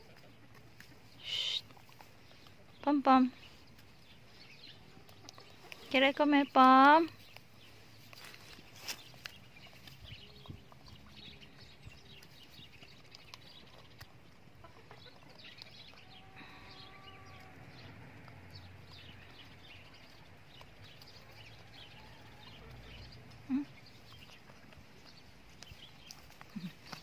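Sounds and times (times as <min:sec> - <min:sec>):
hen pecking: 0:00.0 - 0:27.0.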